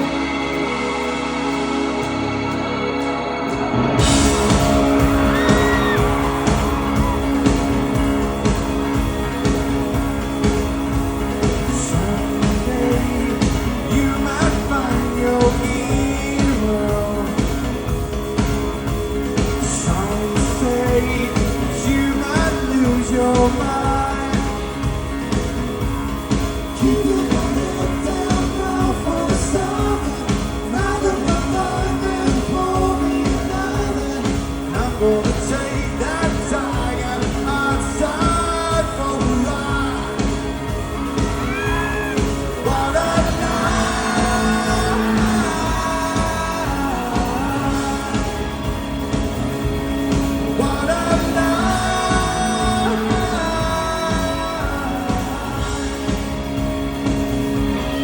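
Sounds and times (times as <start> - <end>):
man singing lead vocal: 0.0 - 2.6, 4.0 - 58.0
live rock band: 0.0 - 58.0
drums steady beat: 4.0 - 58.0.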